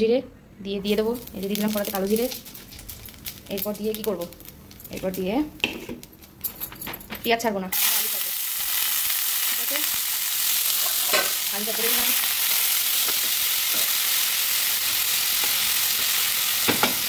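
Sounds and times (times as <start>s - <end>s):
vegetables sizzling in oil: 0.9s - 5.8s, 7.7s - 17.0s.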